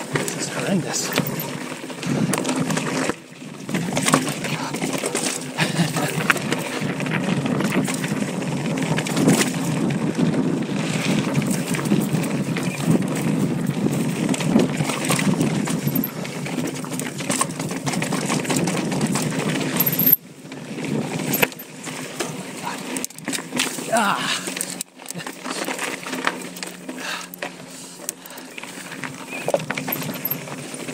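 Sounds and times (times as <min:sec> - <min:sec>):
bike clicks and rattles: 0:00.0 - 0:30.9
bike tyres rumbling on stones: 0:00.0 - 0:30.9.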